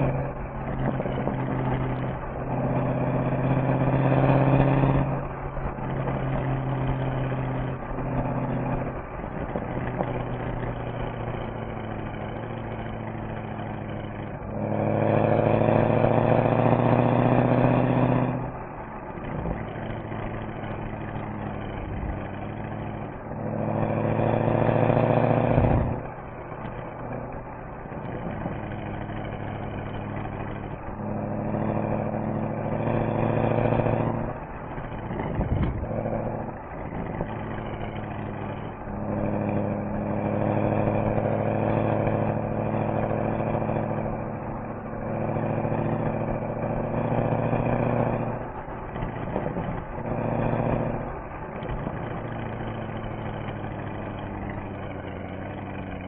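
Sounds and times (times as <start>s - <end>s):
car engine and exhaust revving: 0.0s - 56.0s.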